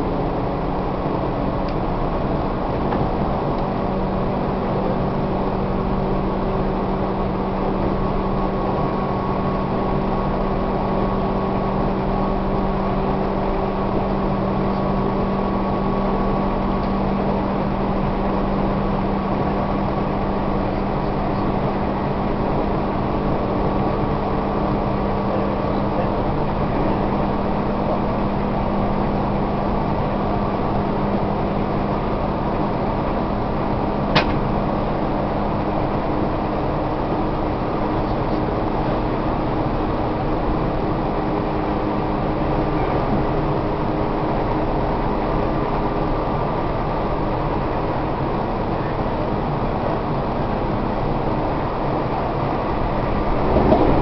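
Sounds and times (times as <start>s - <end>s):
train motor hum: 0.0s - 54.0s
wheels roaring on rails: 0.0s - 54.0s.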